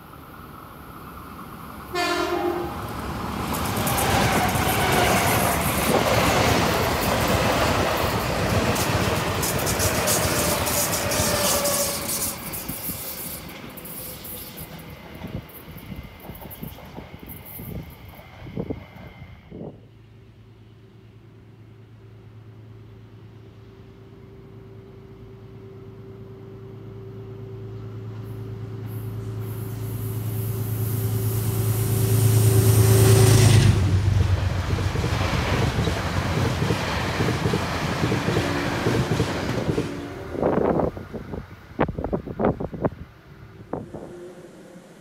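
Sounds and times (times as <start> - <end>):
train rushing past: 0.0 - 19.8, 26.6 - 45.0
train hum: 0.0 - 45.0.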